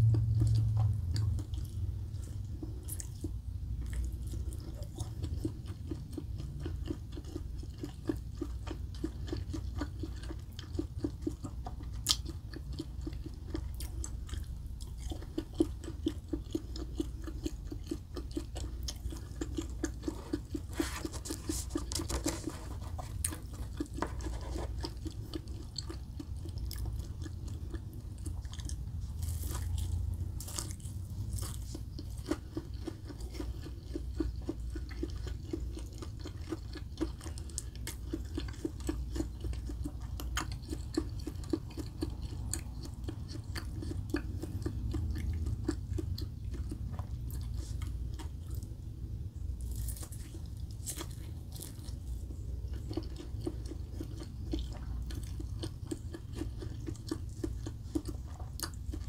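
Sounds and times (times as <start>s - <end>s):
low steady hum: 0.0s - 59.0s
person chewing food: 0.0s - 59.0s.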